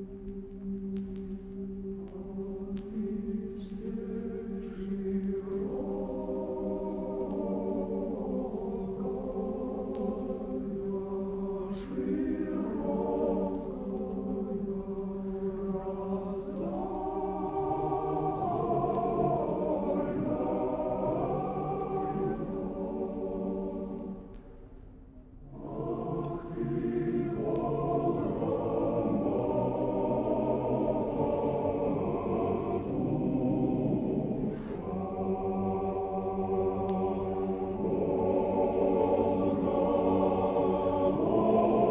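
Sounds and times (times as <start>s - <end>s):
choir singing a slow chant: 0.0s - 41.9s.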